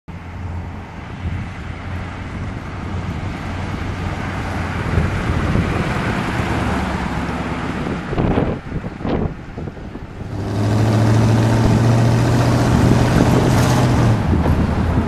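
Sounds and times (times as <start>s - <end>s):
car engine approaching: 0.1s - 15.0s.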